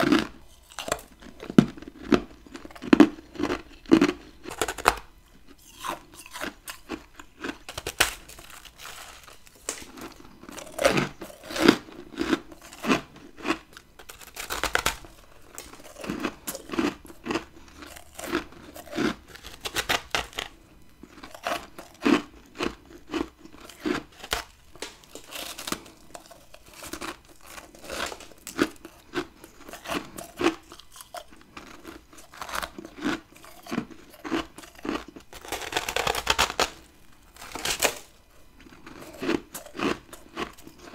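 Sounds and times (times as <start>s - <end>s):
crackly chewing of ice: 0.0s - 40.9s
crunching bites of ice: 5.6s - 36.8s, 37.4s - 40.9s.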